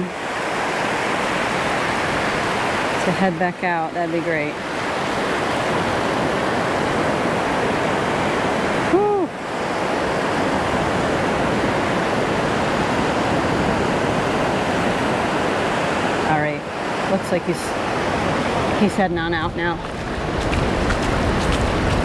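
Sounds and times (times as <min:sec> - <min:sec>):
surf washing over sand: 0:00.0 - 0:22.0.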